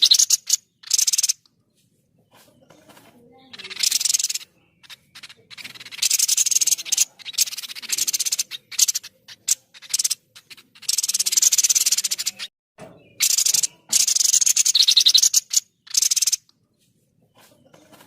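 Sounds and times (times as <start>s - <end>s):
bird rasping chatter: 0.0s - 1.5s, 2.3s - 16.5s.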